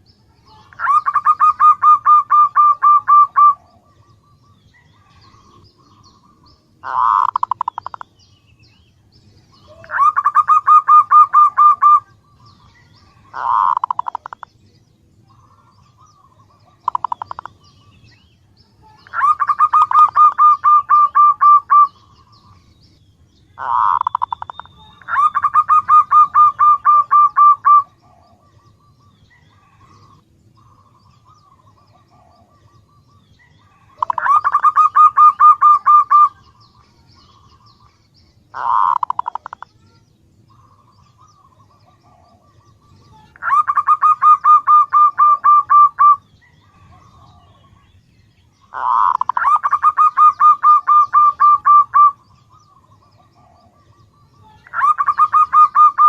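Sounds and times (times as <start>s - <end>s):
dove calling: 0.0s - 56.0s.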